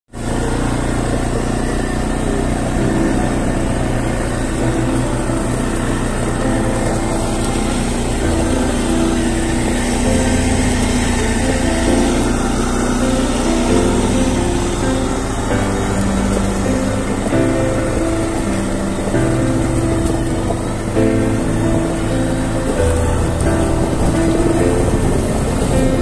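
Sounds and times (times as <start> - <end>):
quad bike engine running: 0.1 - 26.0.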